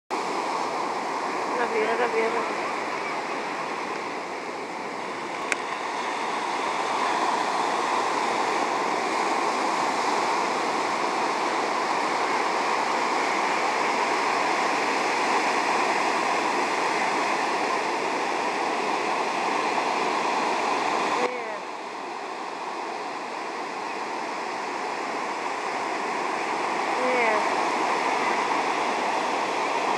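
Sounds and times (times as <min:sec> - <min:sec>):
sea surf breaking on shore: 0:00.1 - 0:29.9.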